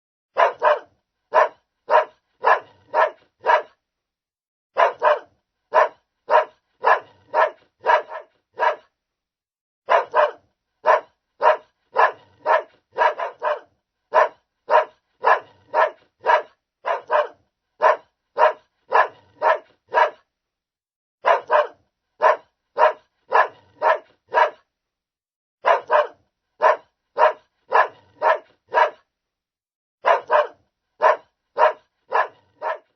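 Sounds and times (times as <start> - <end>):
large dog barking: 0.3 - 3.8, 4.8 - 9.0, 9.9 - 20.3, 21.2 - 24.7, 25.6 - 29.1, 30.0 - 32.9.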